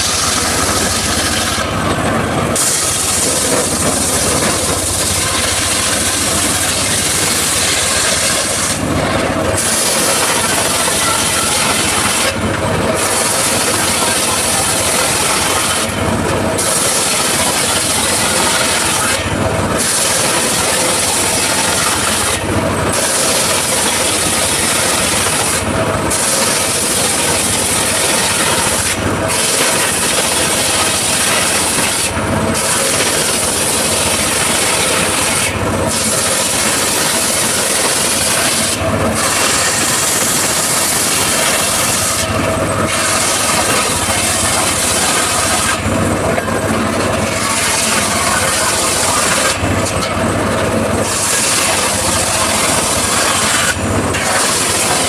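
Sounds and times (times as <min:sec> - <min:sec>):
circular saw cutting wood: 0:00.0 - 0:55.0.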